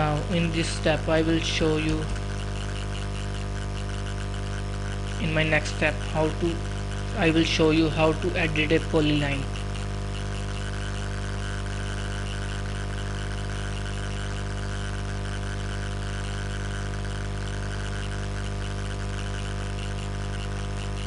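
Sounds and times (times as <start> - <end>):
electrical hum with hiss: 0.0 - 21.0.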